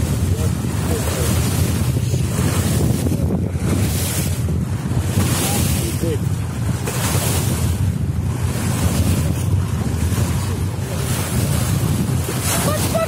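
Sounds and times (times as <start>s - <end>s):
water washing against boat: 0.0s - 13.0s
wind buffeting microphone: 0.0s - 13.0s.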